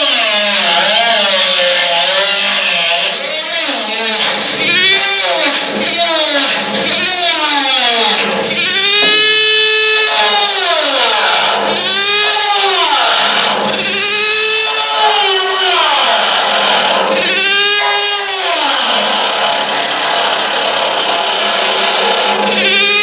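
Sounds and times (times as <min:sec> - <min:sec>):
power tool motor whining: 0:00.0 - 0:23.0.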